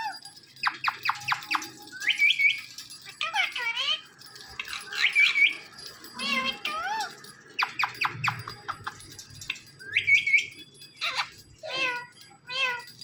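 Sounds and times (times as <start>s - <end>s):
parrot calling: 0.0s - 12.9s.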